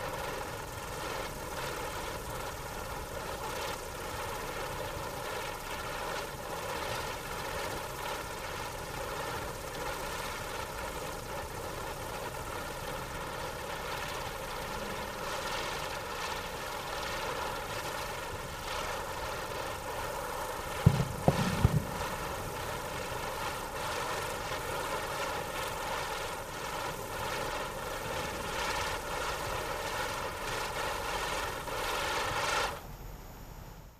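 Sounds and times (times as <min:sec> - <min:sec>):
firework wheel hissing whine: 0:00.0 - 0:33.9.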